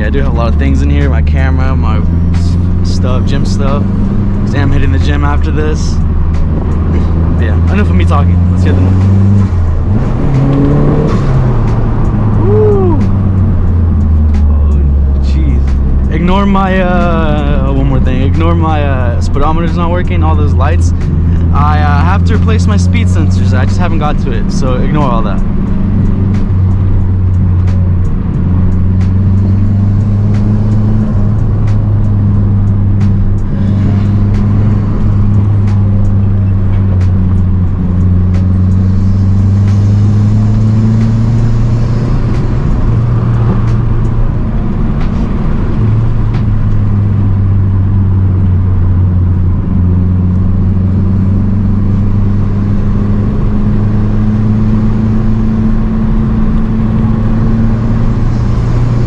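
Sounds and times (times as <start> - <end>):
turbocharged car engine revving: 0.0 - 59.0.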